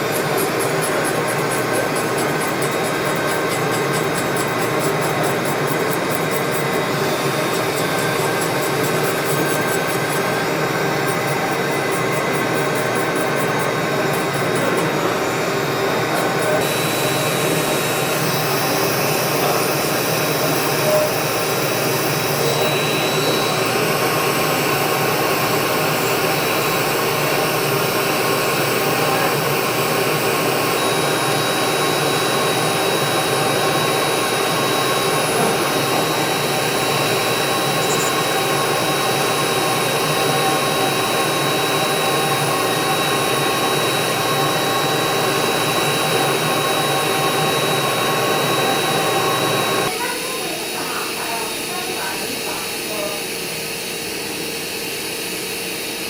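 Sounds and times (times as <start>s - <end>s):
electric foot file whirring: 0.0s - 56.0s.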